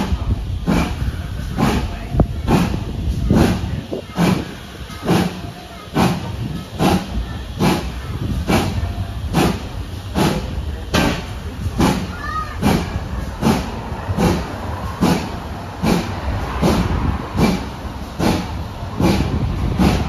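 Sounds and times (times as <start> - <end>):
steam locomotive chuffing: 0.0 - 20.0
train running rumble: 0.0 - 20.0.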